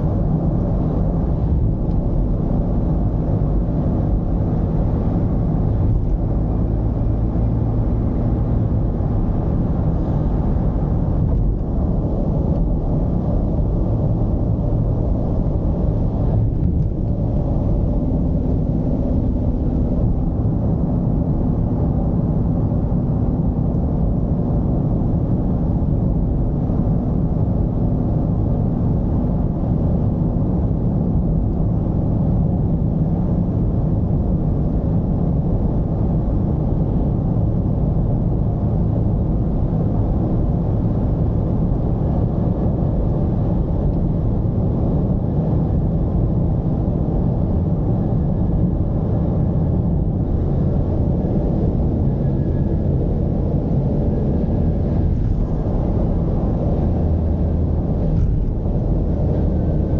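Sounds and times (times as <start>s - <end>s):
diesel van engine drone: 0.0s - 59.9s.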